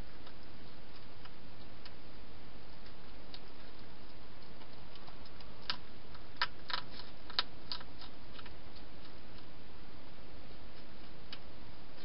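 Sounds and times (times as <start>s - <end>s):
hedgehog clicking and crunching: 0.0s - 12.0s
steady background hiss: 0.0s - 12.0s.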